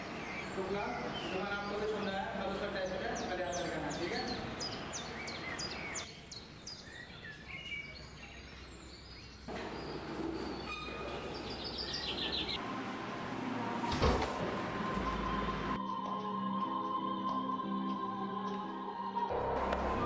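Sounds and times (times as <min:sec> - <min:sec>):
background ambience: 0:00.0 - 0:20.0.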